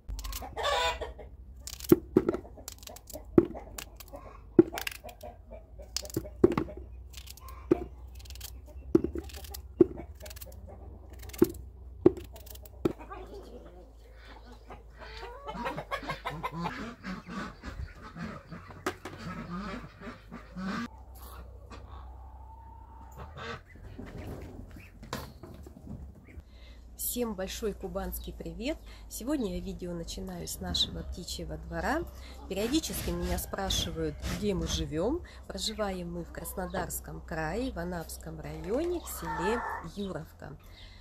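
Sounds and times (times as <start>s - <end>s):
chickens clucking: 0.0s - 26.4s, 30.1s - 40.9s.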